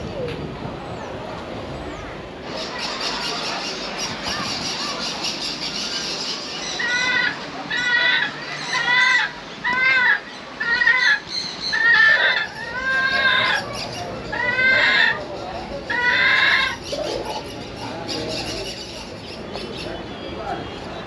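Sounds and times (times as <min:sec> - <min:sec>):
chatter of small birds: 0:00.0 - 0:21.0.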